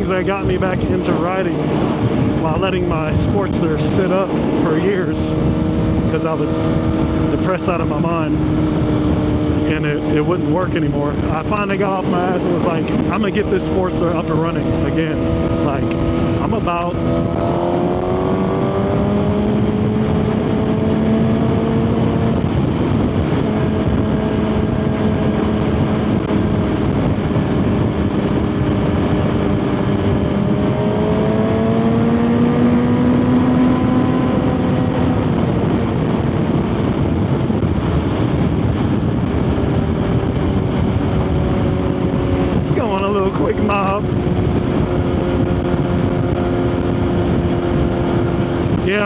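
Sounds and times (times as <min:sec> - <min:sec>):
heavy wind rush: 0:00.0 - 0:49.0
motorcycle engine cruising: 0:00.0 - 0:49.0.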